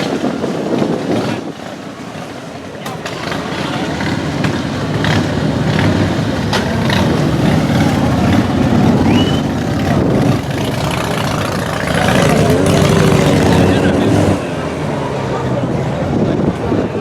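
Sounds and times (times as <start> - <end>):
motorcycle engine running rough: 0.0 - 17.0.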